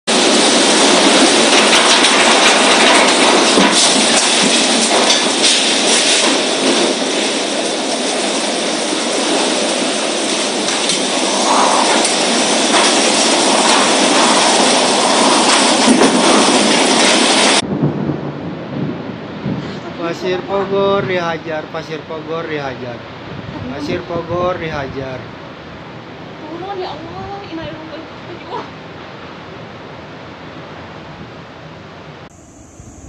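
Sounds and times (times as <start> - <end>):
tornado wind roar: 0.1 - 33.0.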